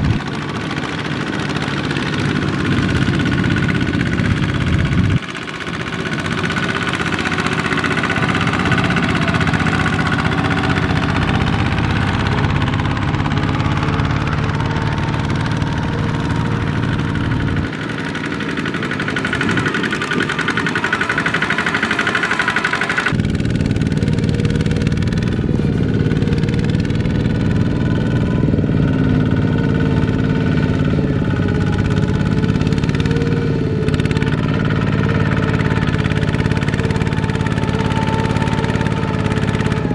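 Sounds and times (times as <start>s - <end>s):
walking tractor diesel engines running: 0.0s - 39.9s.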